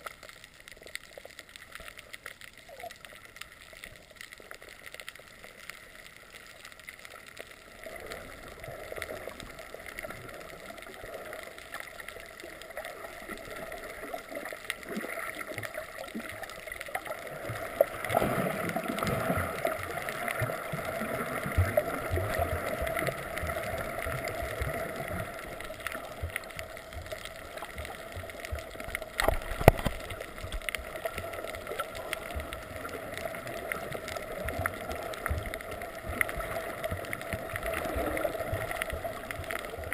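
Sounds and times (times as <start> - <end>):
muffled water gurgling and sloshing: 0.0 - 39.9.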